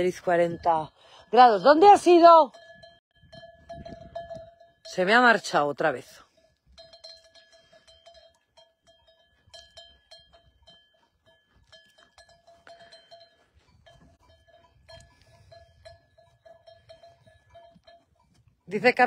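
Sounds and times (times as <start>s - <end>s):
livestock bell clanking: 0.0s - 19.0s.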